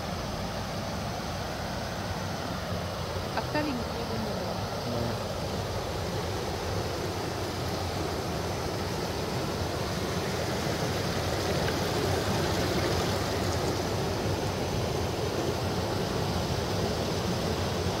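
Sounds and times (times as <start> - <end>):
water rushing over ledges: 0.1 - 18.0.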